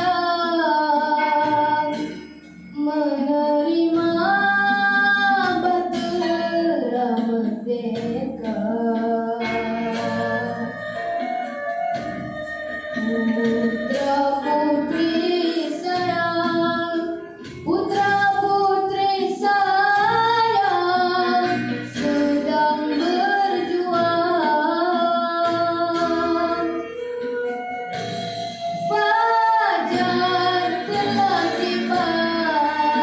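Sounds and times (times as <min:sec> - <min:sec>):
boy singing: 0:00.0 - 0:02.1, 0:02.8 - 0:11.0, 0:12.6 - 0:26.8, 0:28.8 - 0:33.0
musical accompaniment: 0:00.0 - 0:33.0.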